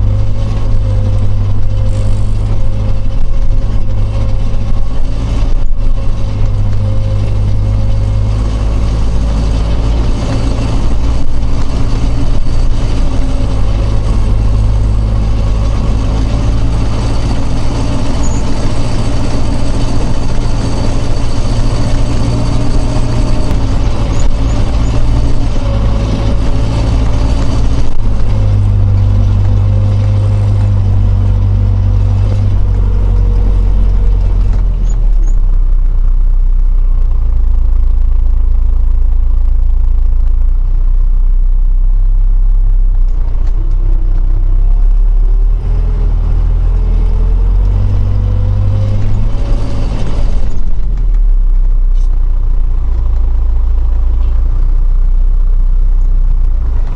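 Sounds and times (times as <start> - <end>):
tractor diesel engine rumbling: 0.0 - 56.9.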